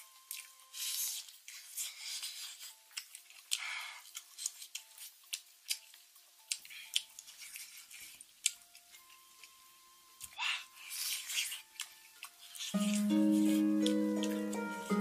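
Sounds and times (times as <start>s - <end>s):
soft background music: 0.0s - 15.0s
wet chewing: 0.3s - 9.6s, 10.2s - 14.9s.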